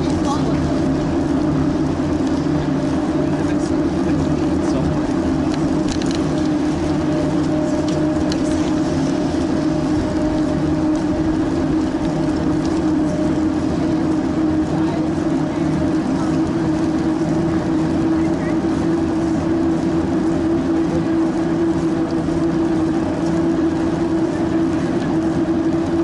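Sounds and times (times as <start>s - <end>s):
bicycle riding on paved path: 0.0s - 26.0s.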